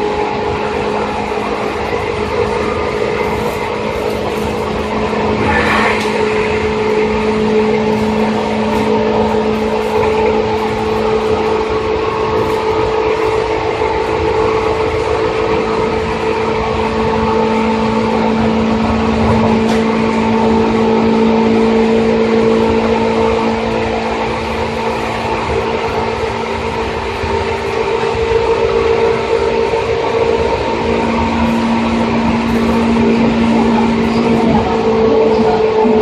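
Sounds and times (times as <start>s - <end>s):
electric train motor hum: 0.0s - 36.0s
train wheels rumbling on track: 0.0s - 36.0s.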